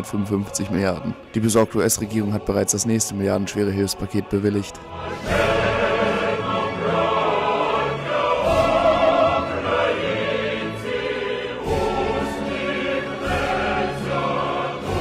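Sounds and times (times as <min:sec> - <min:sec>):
choir singing with vibrato: 0:00.0 - 0:15.0.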